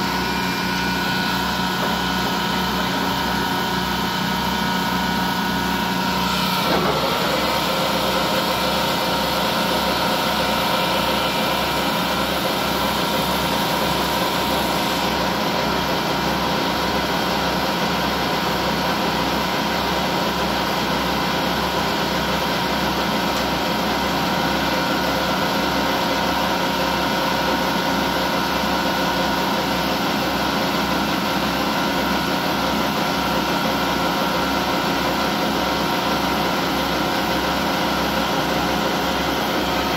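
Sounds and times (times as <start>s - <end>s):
lathe mechanical hum: 0.0s - 39.9s.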